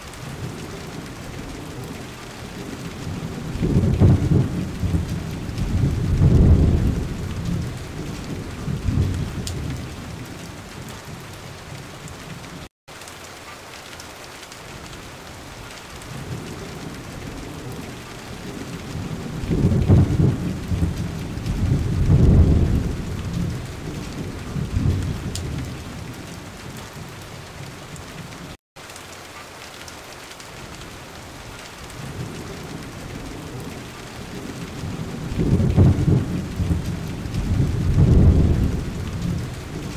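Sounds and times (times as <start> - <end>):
steady rain: 0.0 - 39.9
deep thunder rumbles: 0.2 - 12.6, 16.0 - 28.3, 31.9 - 39.9.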